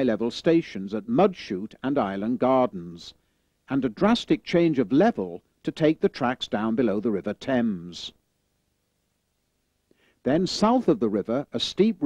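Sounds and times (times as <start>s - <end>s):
man narrating: 0.0s - 8.2s, 10.3s - 12.0s.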